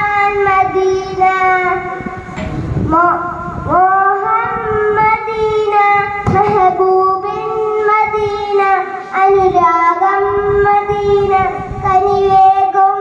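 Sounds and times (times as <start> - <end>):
boy singing into a microphone: 0.0 - 13.0.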